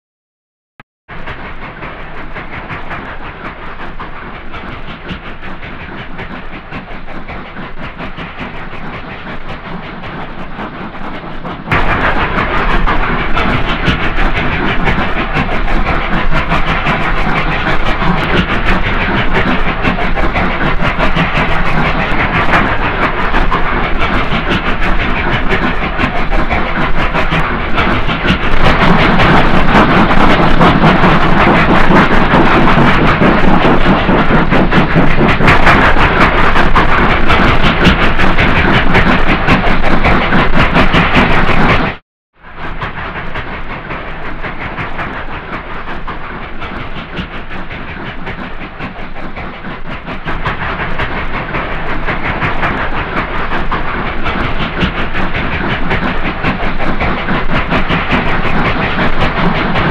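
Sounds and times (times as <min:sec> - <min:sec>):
steam locomotives working hard: 0:01.1 - 0:59.9.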